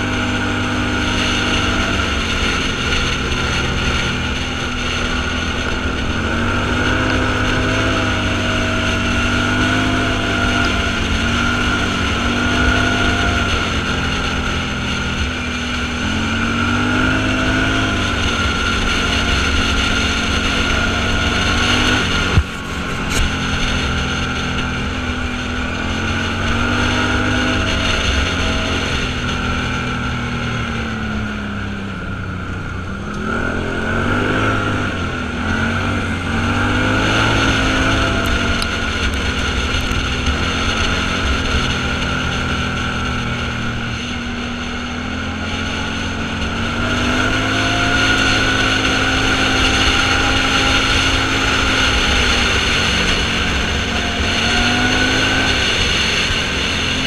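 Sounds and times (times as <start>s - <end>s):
off-road vehicle engine: 0.0s - 57.0s
road and wind noise: 0.0s - 57.0s.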